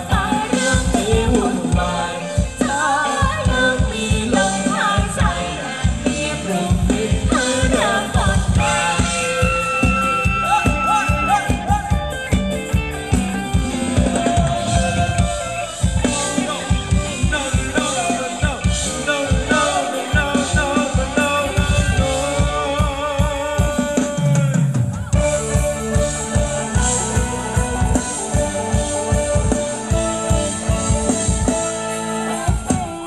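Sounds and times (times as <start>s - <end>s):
person singing: 0.0s - 12.1s, 13.8s - 30.0s
live band dance music: 0.0s - 33.0s
steady drum beat: 0.0s - 33.0s.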